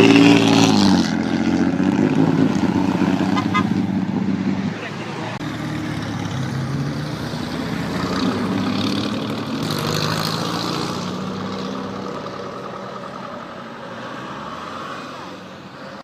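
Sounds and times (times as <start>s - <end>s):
car engine passing by: 0.0s - 16.0s.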